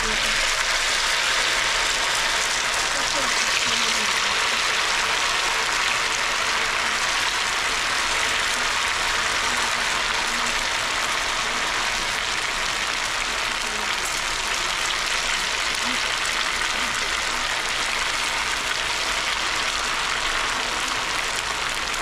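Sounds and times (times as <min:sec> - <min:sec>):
potatoes sizzling in deep-frying oil: 0:00.0 - 0:22.0.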